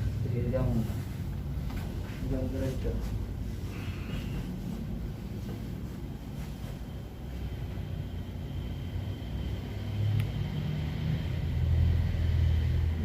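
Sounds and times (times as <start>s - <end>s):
low mechanical motor rumble: 0.0s - 13.0s.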